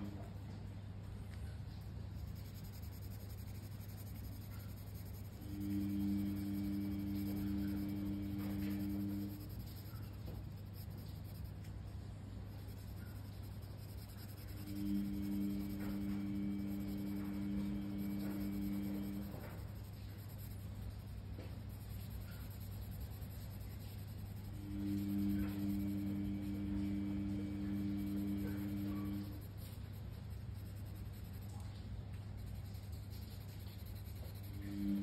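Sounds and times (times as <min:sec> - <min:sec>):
pencil scratching on paper: 0:00.0 - 0:00.5, 0:01.7 - 0:35.0
low hum: 0:00.0 - 0:35.0.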